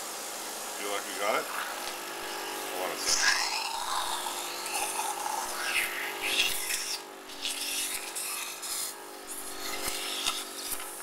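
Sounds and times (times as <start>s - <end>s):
machine blower hum: 0.0s - 11.0s.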